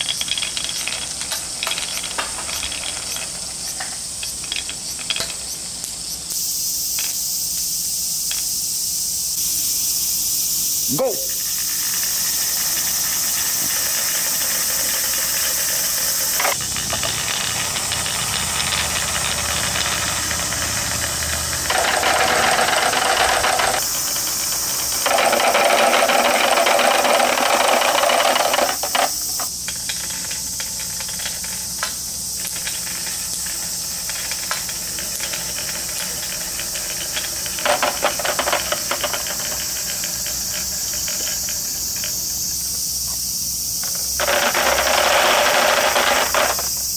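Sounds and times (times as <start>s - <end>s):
plastic balls rolling and rattling: 0.0s - 6.3s, 11.0s - 43.1s, 43.7s - 46.9s
balls clicking and knocking: 0.0s - 8.6s, 10.9s - 46.9s
steady high hiss: 0.0s - 46.9s.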